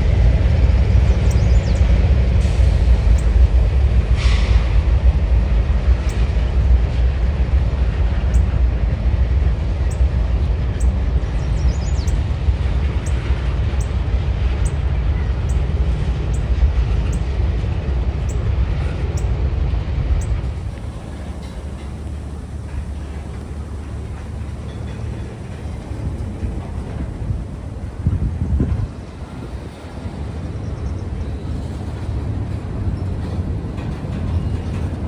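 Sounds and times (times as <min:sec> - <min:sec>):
train rumbling past: 0:00.0 - 0:35.0.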